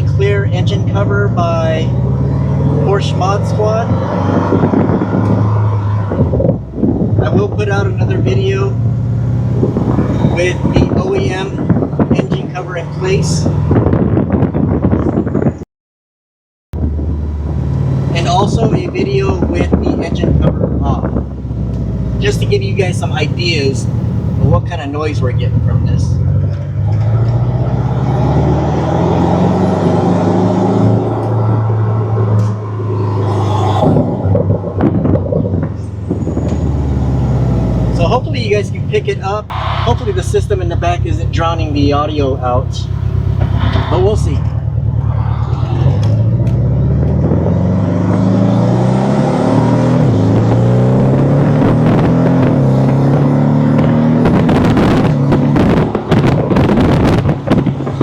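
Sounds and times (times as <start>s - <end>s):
car engine drone inside cabin: 0.0s - 14.0s, 19.7s - 57.8s.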